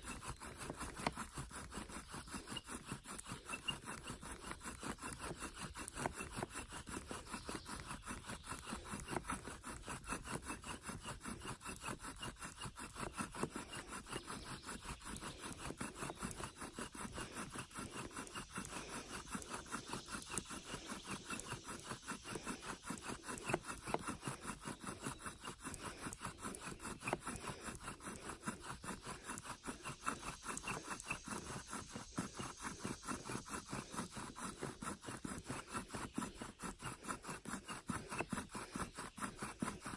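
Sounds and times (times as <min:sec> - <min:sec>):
bow drill spindle grinding wood: 0:00.0 - 0:39.9.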